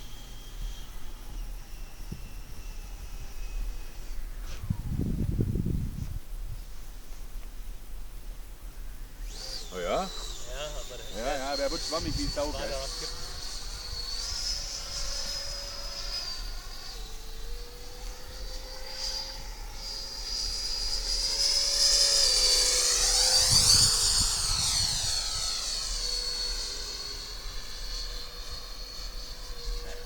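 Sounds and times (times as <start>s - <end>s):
model jet whining: 0.0s - 7.1s, 8.7s - 30.0s.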